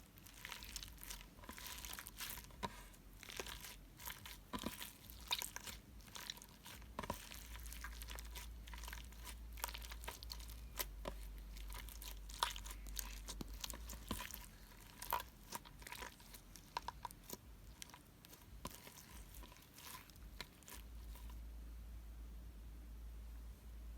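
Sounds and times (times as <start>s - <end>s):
slime being squished: 0.0s - 21.4s.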